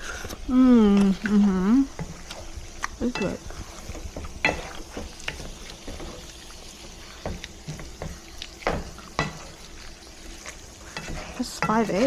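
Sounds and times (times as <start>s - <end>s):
eggs sizzling in a pan: 0.0s - 12.0s
utensil scraping and knocking pan: 1.9s - 12.0s.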